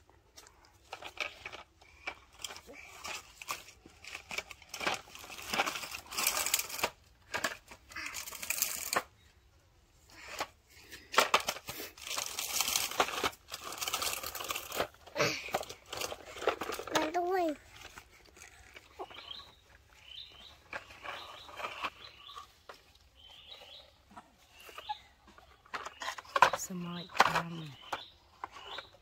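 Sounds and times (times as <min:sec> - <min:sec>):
rustling and scraping on bamboo: 0:00.1 - 0:29.0.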